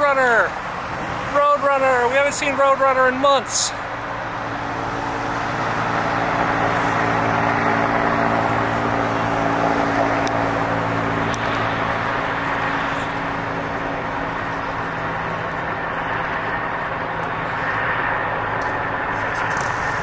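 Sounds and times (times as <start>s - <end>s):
vehicles driving past: 0.0s - 20.0s.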